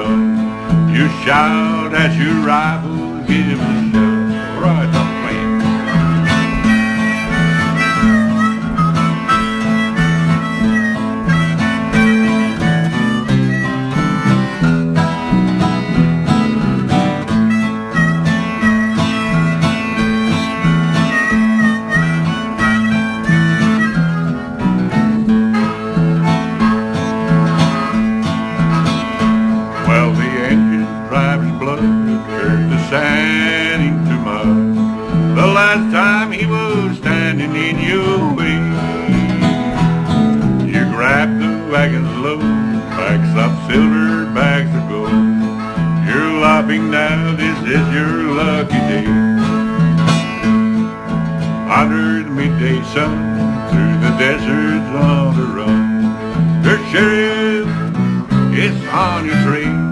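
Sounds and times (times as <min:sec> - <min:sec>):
acoustic guitar: 0:00.0 - 0:59.9
bass guitar: 0:00.0 - 0:59.9
harmonica playing lead: 0:00.0 - 0:59.9.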